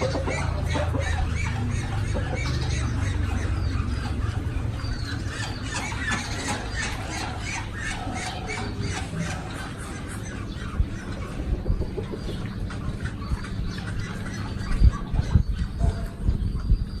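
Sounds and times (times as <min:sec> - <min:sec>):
farm animals squealing and squawking: 0:00.0 - 0:17.0
steady low rumble: 0:00.0 - 0:17.0.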